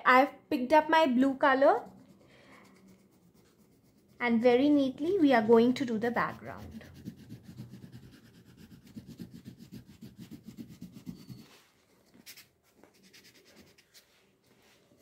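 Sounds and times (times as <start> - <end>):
pencil strokes rubbing on paper: 1.4 - 15.0.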